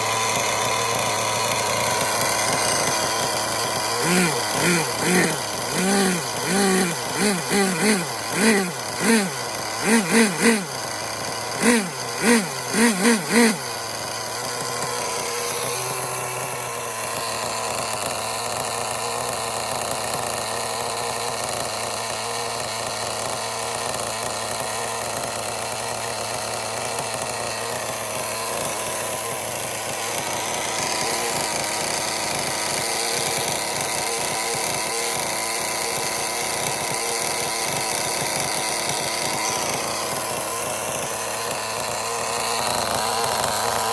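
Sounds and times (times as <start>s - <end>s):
model glow engine buzzing: 0.0s - 43.9s.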